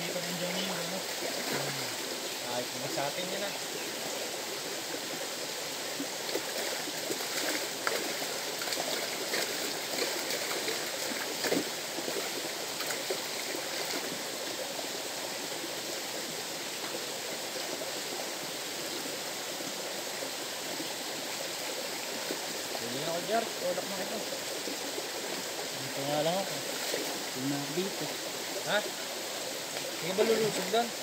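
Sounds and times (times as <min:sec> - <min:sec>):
river water rushing over rocks: 0:00.0 - 0:31.0.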